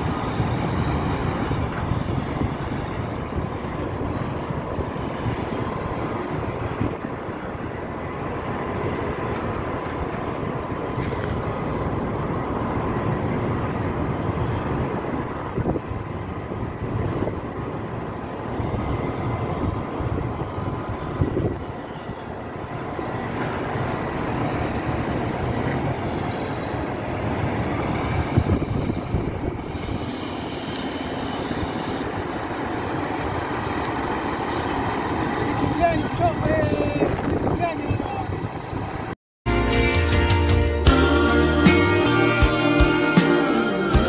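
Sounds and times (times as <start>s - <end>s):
fire engine driving past: 0.0s - 44.0s.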